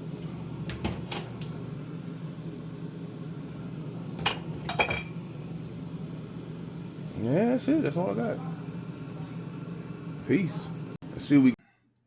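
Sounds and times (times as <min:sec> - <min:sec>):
refrigerator humming: 0:00.0 - 0:11.6.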